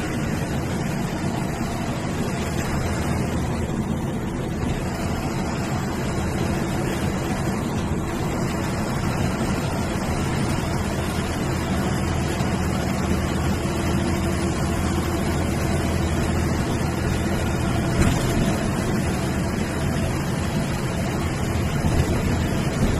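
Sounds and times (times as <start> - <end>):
bus diesel engine drone: 0.0 - 22.9
road noise: 0.0 - 22.9.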